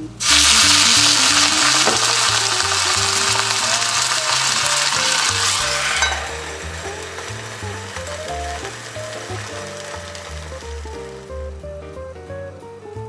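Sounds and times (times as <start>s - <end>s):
water sizzling in hot skillet: 0.2s - 11.3s.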